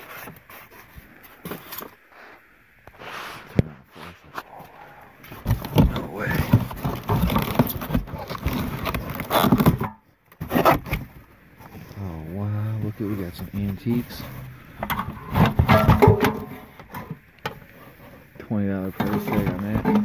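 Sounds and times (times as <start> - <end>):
objects shifted in cardboard box: 0.0 - 2.4, 5.2 - 12.0, 12.8 - 20.0.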